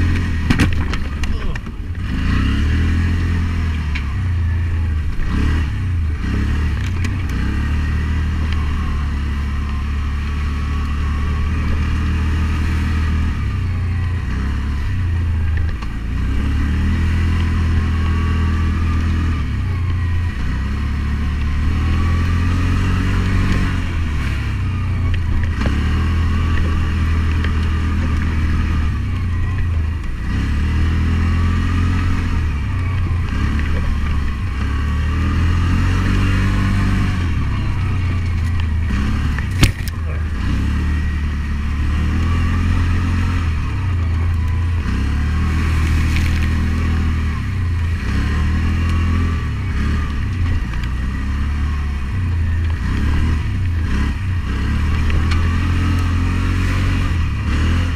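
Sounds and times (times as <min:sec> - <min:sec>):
atv engine revving: 0:00.0 - 0:57.9.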